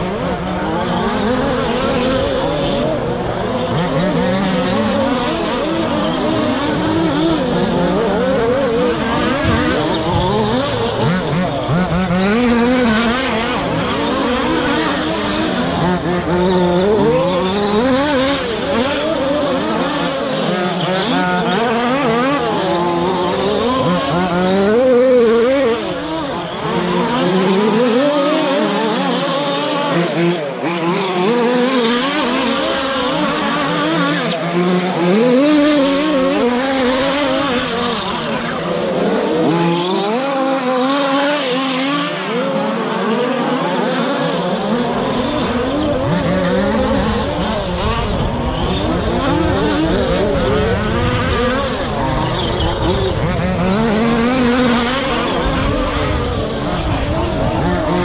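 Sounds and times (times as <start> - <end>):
radio-controlled truck motors racing: 0.0 - 58.0.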